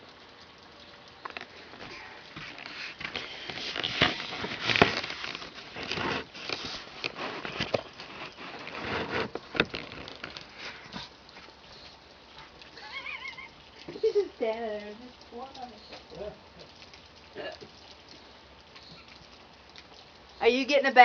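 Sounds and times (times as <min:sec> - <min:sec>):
rainwater dripping and splashing: 0:00.0 - 0:21.0.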